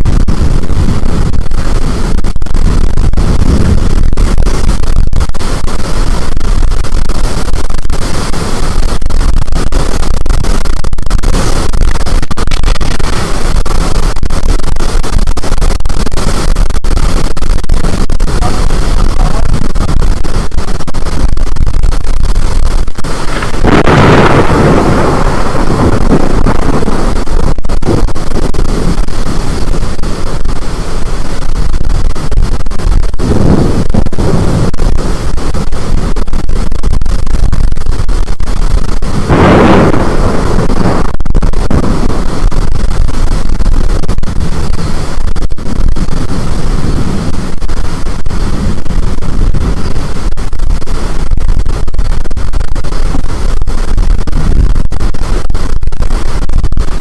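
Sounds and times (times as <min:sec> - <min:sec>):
storm wind roaring on microphone: 0:00.0 - 0:57.0.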